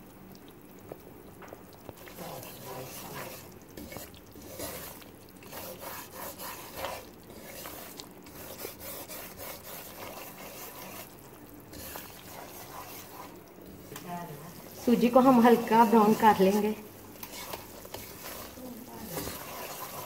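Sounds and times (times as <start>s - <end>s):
light sizzle: 0.0s - 20.0s
wooden spatula scraping a pan: 1.9s - 20.0s.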